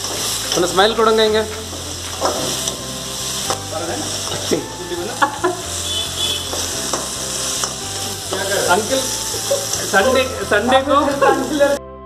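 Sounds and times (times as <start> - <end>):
masala sizzling in hot oil: 0.0 - 11.8.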